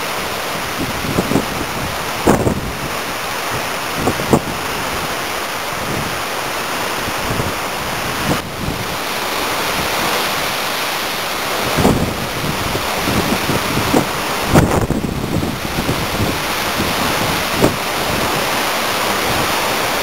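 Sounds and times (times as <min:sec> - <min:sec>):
wind and surf rushing: 0:00.0 - 0:20.0
wind buffeting microphone: 0:00.4 - 0:10.6, 0:11.4 - 0:20.0.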